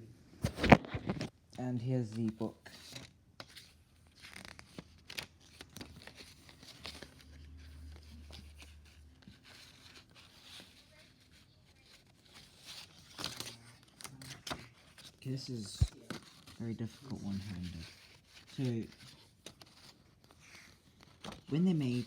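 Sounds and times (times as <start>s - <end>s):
paper rustling: 0.4s - 1.3s, 2.1s - 22.0s.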